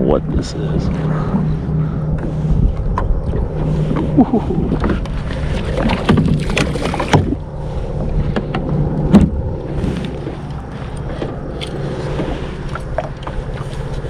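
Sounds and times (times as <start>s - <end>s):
wind on microphone: 0.0s - 14.0s
small waves lapping at kayak: 0.8s - 14.0s.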